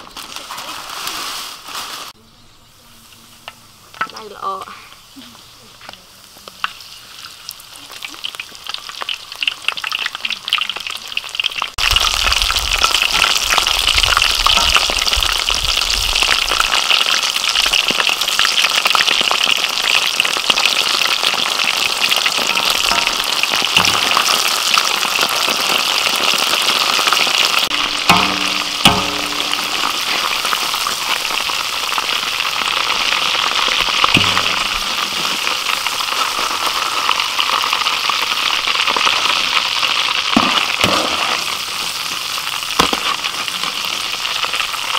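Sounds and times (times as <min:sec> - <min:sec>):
shrimp sizzling in hot oil: 0:04.9 - 0:44.9.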